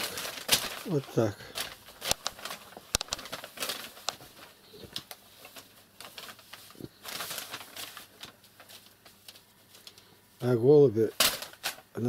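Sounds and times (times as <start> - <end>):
paper crackling and rustling: 0.0 - 12.0.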